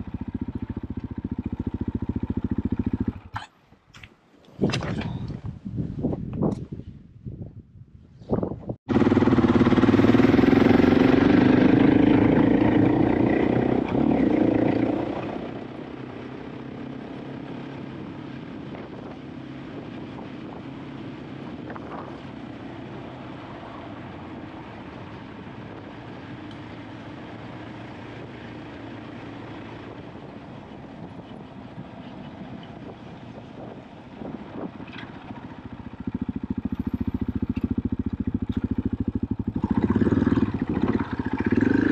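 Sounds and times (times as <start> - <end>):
motorcycle engine revving: 0.0 - 3.5, 8.9 - 41.9.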